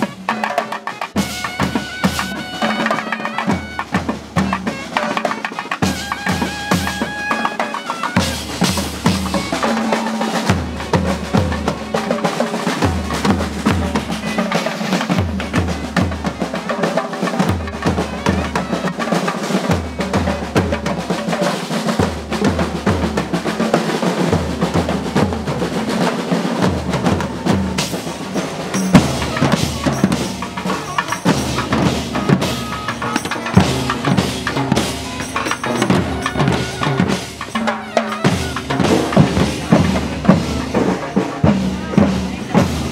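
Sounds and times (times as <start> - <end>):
drum ensemble playing fast rhythm: 0.0 - 42.9.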